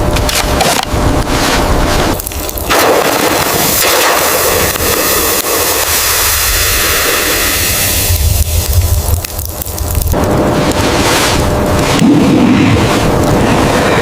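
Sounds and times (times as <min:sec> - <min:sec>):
blizzard wind rushing: 0:00.0 - 0:14.0
low rumble: 0:00.0 - 0:14.0.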